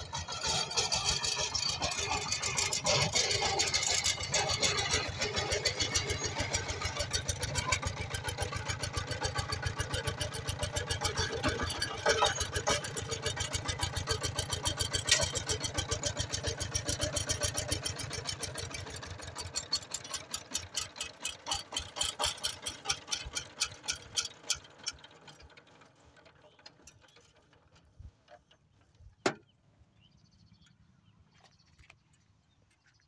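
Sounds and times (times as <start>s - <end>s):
diesel tiller engine running: 0.0s - 29.0s.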